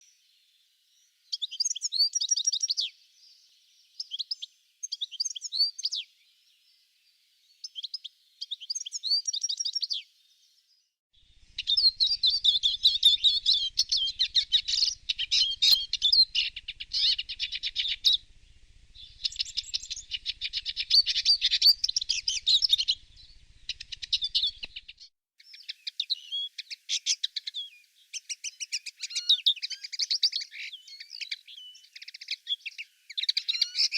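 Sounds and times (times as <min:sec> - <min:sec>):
songbird chirping and trilling: 0:00.0 - 0:33.9.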